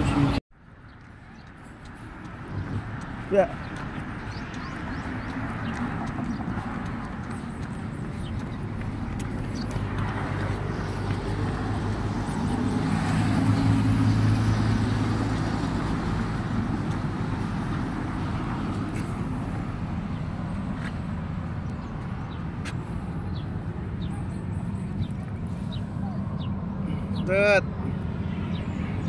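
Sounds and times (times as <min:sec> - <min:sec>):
low rumble of road noise: 0:00.0 - 0:29.0.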